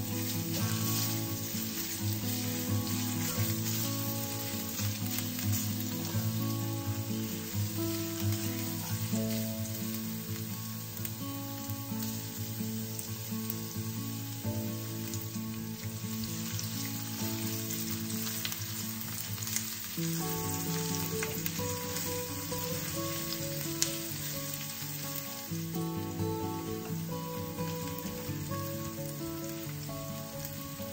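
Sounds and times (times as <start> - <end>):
garlic sizzling in hot oil: 0.0 - 30.9.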